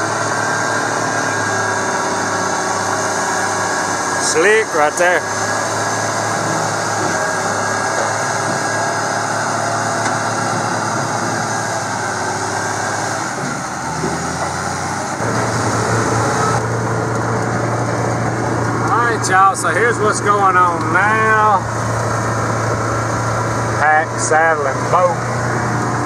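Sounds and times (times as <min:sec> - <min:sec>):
heavy diesel engine running: 0:00.0 - 0:26.0
vehicle engine hum from cab: 0:00.0 - 0:26.0.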